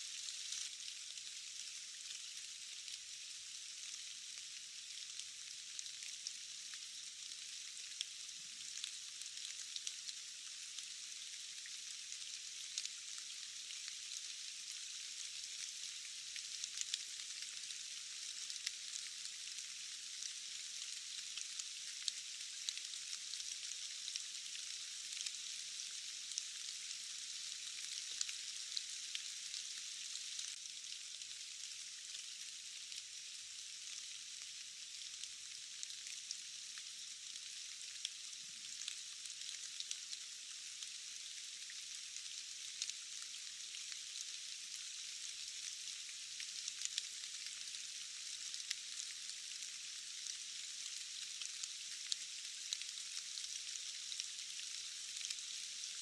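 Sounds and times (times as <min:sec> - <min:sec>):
steady rainfall hiss: 0:00.0 - 0:56.0.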